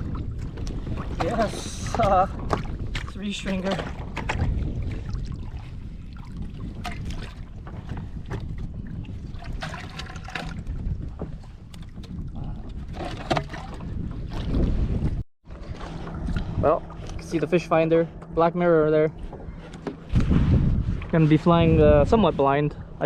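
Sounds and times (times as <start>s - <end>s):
water against kayak hull: 0.0s - 22.5s
wind on microphone: 0.0s - 23.0s.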